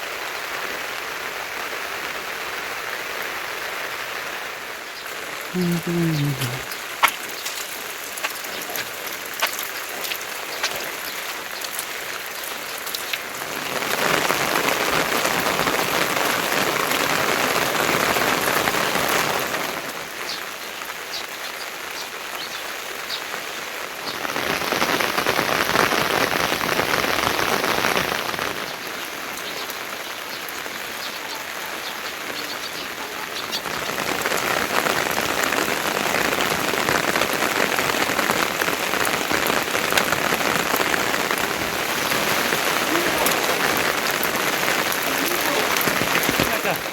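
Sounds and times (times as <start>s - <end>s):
steady rainfall: 0.0s - 46.9s
raindrops ticking: 4.8s - 46.9s.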